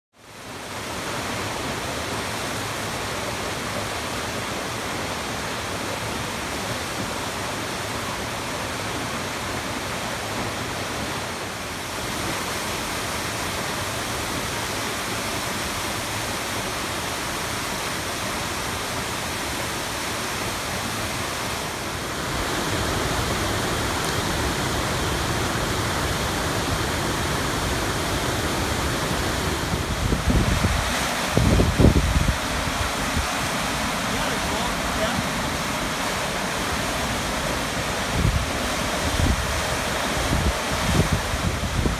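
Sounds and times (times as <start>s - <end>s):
waterfall rushing: 0.2s - 41.9s.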